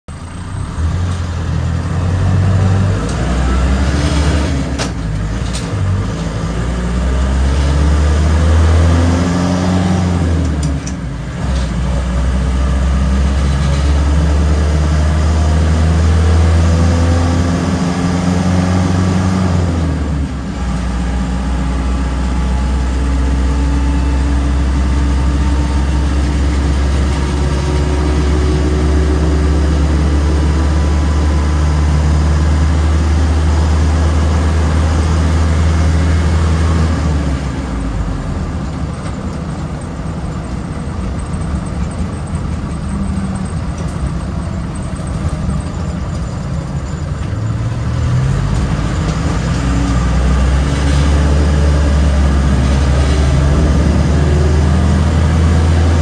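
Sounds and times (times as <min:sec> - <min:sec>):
car engine accelerating through gears: 0:00.2 - 0:39.2, 0:47.4 - 0:56.0.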